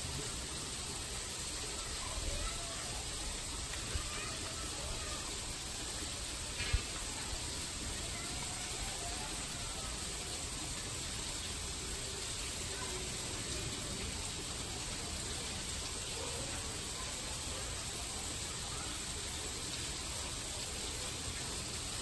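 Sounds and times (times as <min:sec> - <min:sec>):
faint distant voices: 0:00.0 - 0:22.0
outdoor hiss: 0:00.0 - 0:22.0.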